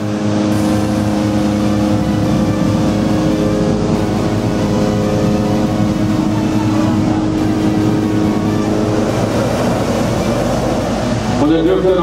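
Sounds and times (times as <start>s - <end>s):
inflation fan engine drone: 0.0s - 12.0s.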